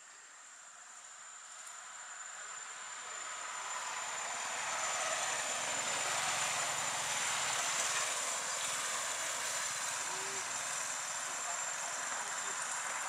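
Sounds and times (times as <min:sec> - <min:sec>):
high-pitched insect whine: 0:00.0 - 0:13.0.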